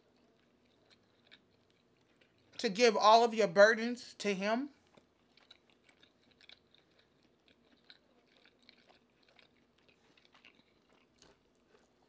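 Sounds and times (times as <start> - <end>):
soft chewing mouth clicks: 0.0 - 2.6, 4.8 - 12.0.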